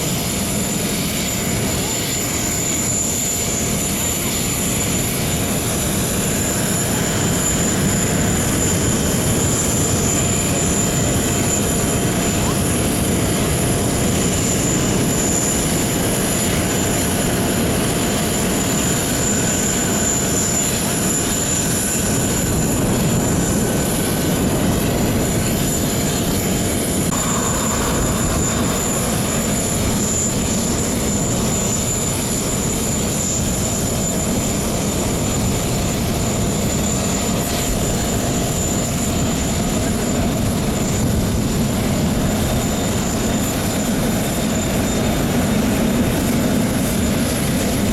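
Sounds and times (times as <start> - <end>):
electric propellers running: 0.0 - 47.9.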